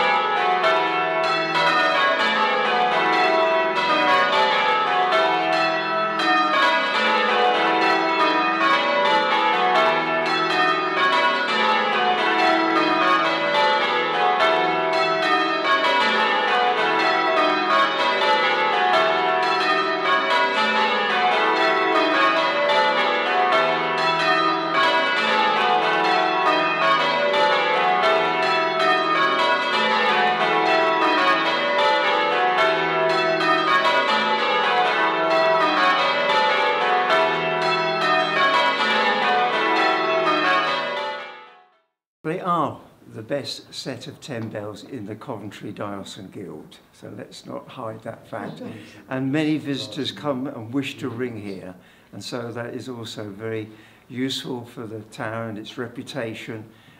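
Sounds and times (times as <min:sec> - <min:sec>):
church bells change ringing: 0:00.0 - 0:41.7, 0:47.7 - 0:56.9.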